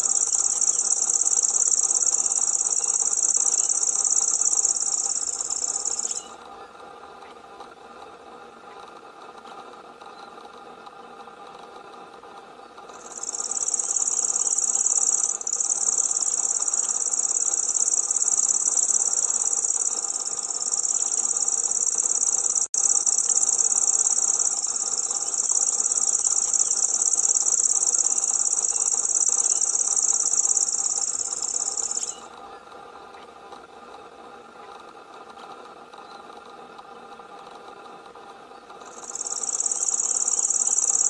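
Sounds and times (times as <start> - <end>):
bird high continuous reel: 0.0 - 41.0
faint steady hum: 0.0 - 41.0.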